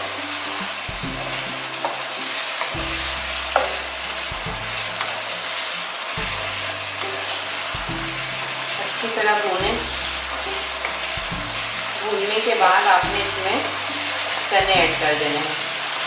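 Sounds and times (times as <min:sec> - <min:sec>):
food sizzling in hot oil: 0:00.0 - 0:16.0
soft background music: 0:00.0 - 0:16.0.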